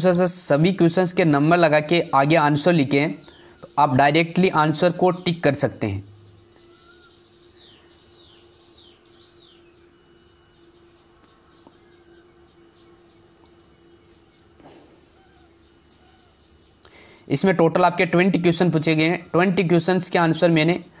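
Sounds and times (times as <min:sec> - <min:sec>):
faint birds chirping: 0:00.0 - 0:21.0
steady low hum: 0:00.0 - 0:21.0.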